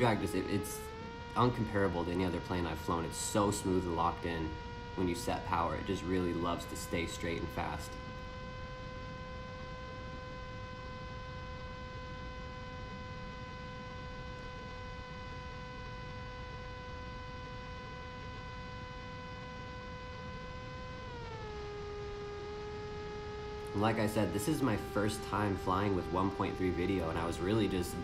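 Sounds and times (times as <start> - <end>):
electric motor and propeller whine: 0.0 - 28.0.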